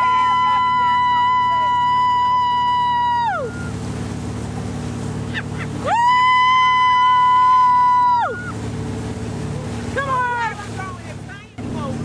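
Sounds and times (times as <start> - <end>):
boat wake rushing: 0.0 - 12.0
motorboat engine drone: 0.0 - 12.0.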